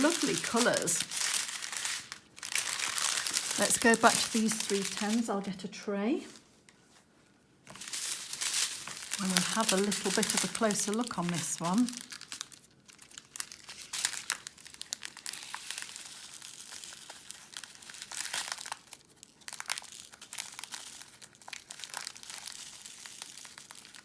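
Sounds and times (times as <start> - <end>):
plastic bag crinkling: 0.0 - 6.4, 7.7 - 24.0.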